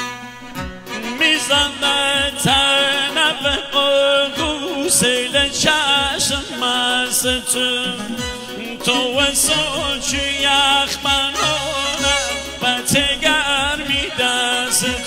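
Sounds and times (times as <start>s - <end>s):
keyboard accompaniment: 0.0s - 15.0s
steady drum beat: 0.6s - 15.0s
man singing into a microphone: 0.8s - 15.0s.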